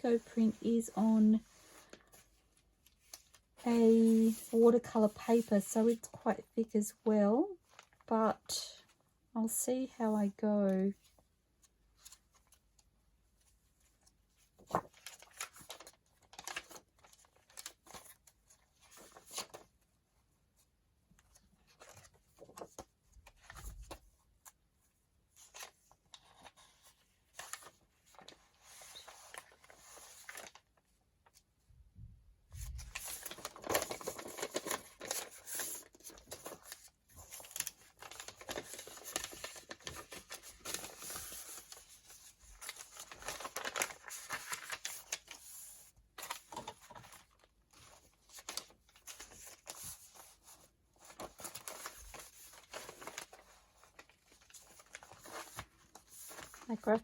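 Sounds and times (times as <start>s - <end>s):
paper rustling and shuffling: 0.0s - 6.8s, 10.9s - 31.6s, 32.5s - 57.0s.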